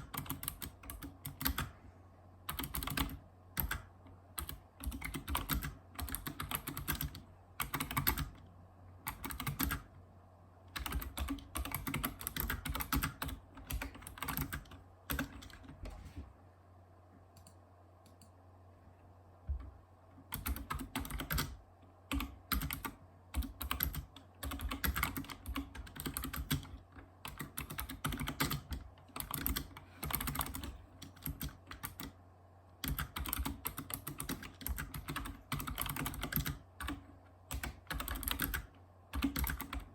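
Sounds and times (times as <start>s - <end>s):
typing on a keyboard: 0.0s - 1.7s, 2.5s - 8.4s, 9.1s - 9.9s, 10.7s - 15.8s, 20.3s - 32.2s, 32.8s - 39.9s.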